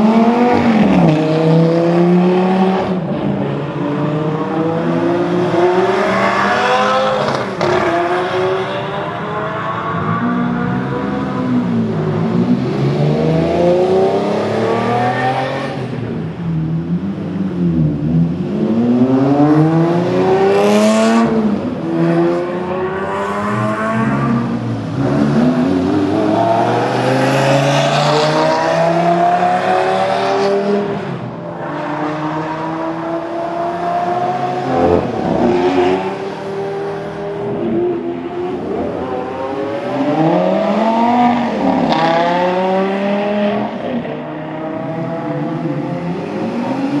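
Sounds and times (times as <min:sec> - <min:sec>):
sports car engines accelerating: 0:00.0 - 0:47.0.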